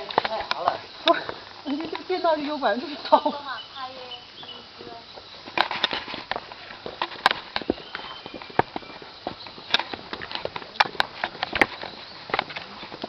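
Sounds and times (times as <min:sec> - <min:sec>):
footsteps on stone steps: 0:00.0 - 0:03.5, 0:04.3 - 0:13.0.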